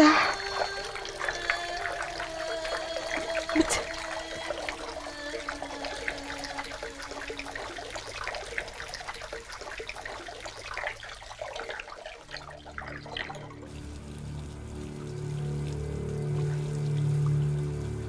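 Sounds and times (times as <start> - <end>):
low steady music: 0.0 - 10.8, 11.8 - 18.0
water dripping: 0.0 - 18.0
water trickling from fountain: 0.0 - 18.0.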